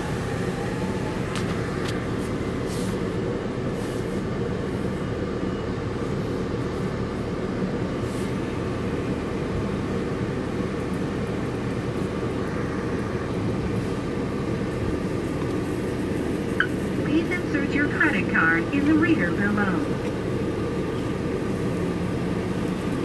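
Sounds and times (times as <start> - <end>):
car wash machinery humming: 0.0 - 23.0.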